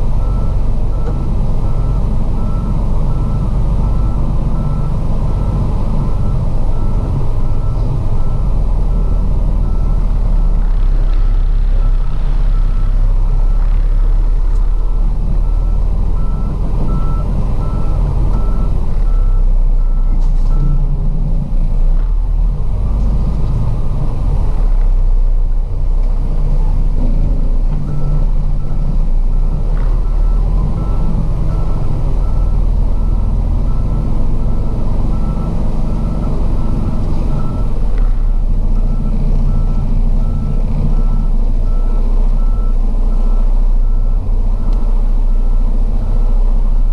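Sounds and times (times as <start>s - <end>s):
diesel truck engine rumbling: 0.0s - 46.9s
reversing alarm beeping: 0.2s - 13.8s, 14.7s - 20.8s, 27.9s - 38.0s, 38.8s - 46.9s.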